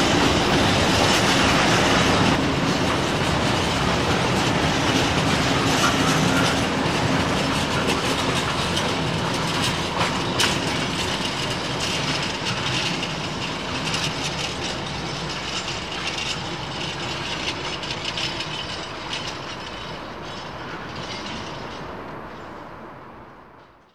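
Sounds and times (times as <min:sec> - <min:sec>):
train wheels clattering on rails: 0:00.0 - 0:23.9.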